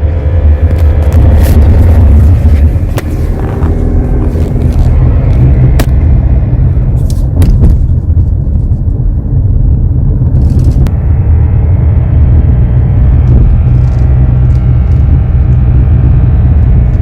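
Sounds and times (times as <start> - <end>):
car engine droning while driving: 0.0 - 17.0.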